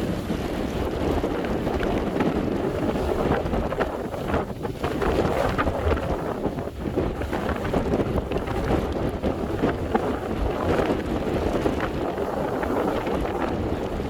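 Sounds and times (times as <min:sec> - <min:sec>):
waves breaking: 0:00.0 - 0:14.0
wind buffeting microphone: 0:00.0 - 0:14.0.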